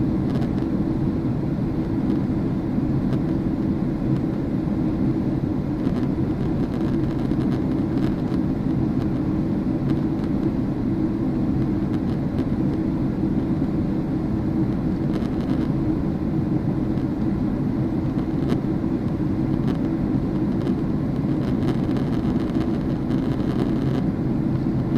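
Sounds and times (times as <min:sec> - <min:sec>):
airliner engine drone: 0:00.0 - 0:24.9.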